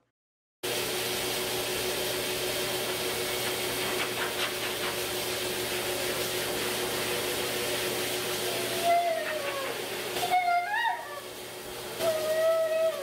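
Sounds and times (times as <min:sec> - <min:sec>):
pet grooming dryer blasting air: 0:00.6 - 0:13.0.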